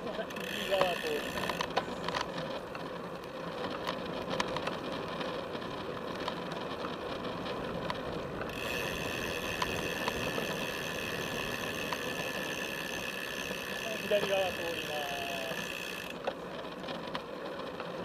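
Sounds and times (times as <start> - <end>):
bike clicks and rattles: 0.0 - 18.0
tyre and wind noise: 0.3 - 18.0.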